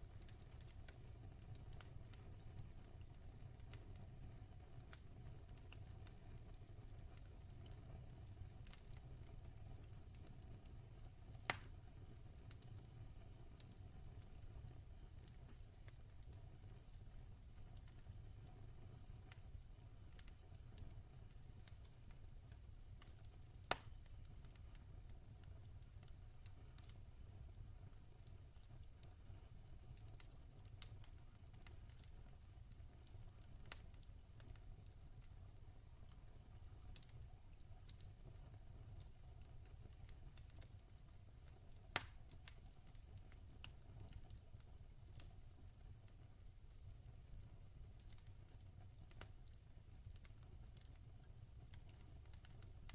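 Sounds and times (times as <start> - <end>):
fire popping: 0.0 - 52.9
log fire crackling: 0.0 - 52.9.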